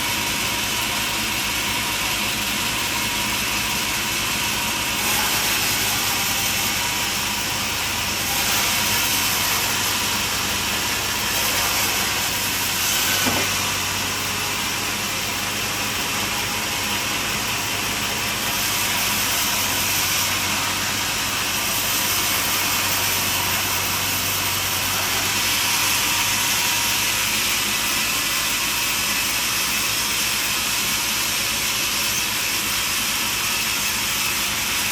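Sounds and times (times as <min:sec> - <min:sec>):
band sawmill running: 0:00.0 - 0:34.9.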